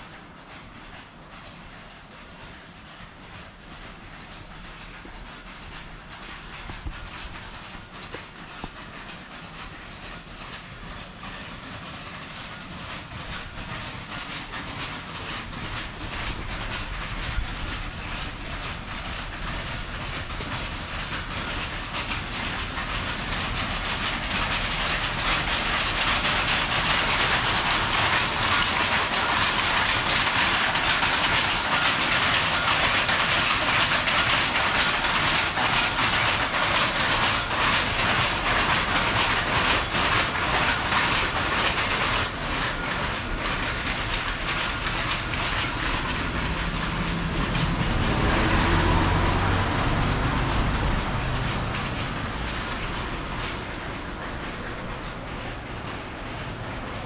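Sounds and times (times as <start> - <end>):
weaving looms clattering: 0.0 - 57.0.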